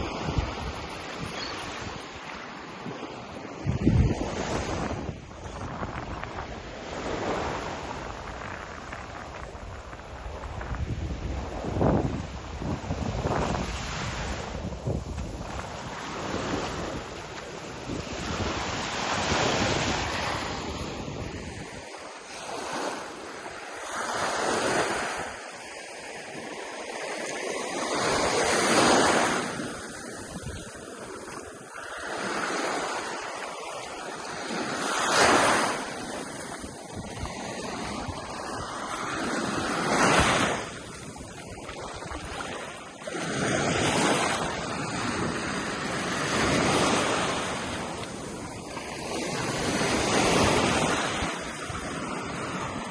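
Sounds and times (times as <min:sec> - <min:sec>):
wind buffeting microphone: 0:00.0 - 0:22.0, 0:27.8 - 0:33.1, 0:34.0 - 0:52.9
ocean waves breaking: 0:00.0 - 0:52.9.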